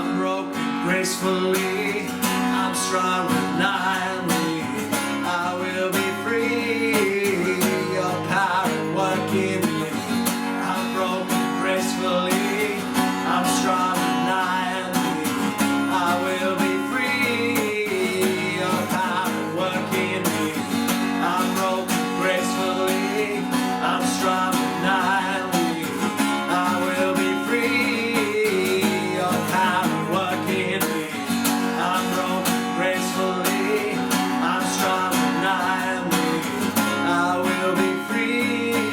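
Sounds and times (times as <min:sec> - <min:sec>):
strummed acoustic guitar: 0:00.0 - 0:38.9.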